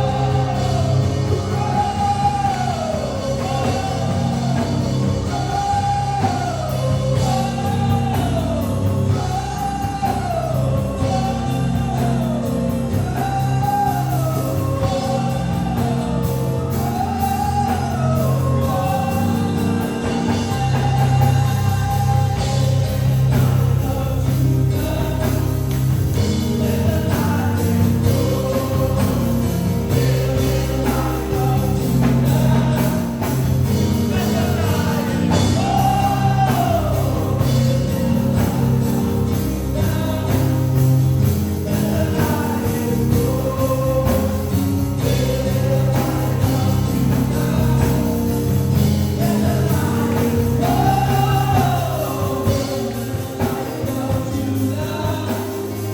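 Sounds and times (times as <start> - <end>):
gospel band playing: 0.0 - 55.9
people singing: 0.0 - 55.9.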